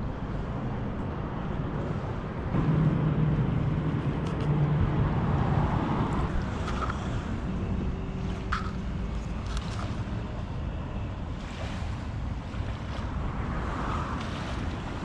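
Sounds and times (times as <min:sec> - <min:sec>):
low rumble of motor traffic: 0:00.0 - 0:15.0.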